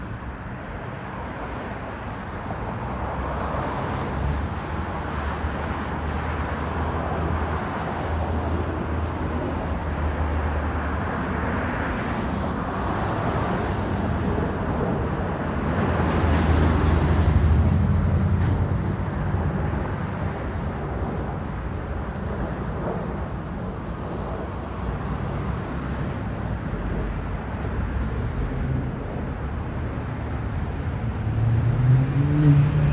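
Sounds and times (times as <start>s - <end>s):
jet engines rumbling on landing: 1.3s - 31.4s.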